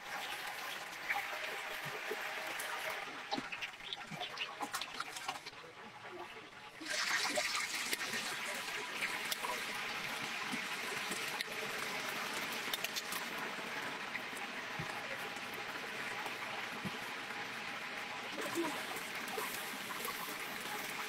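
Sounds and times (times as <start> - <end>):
hot oil sizzling in deep-fryer: 0.0 - 5.9, 6.8 - 21.0
oil crackles and pops: 0.0 - 21.0.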